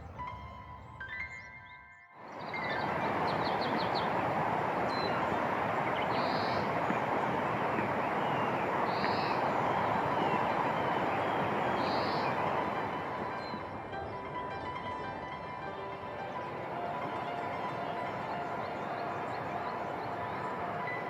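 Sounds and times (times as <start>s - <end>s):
birds chirping: 0.0s - 21.0s
loud steady rushing noise: 2.3s - 21.0s.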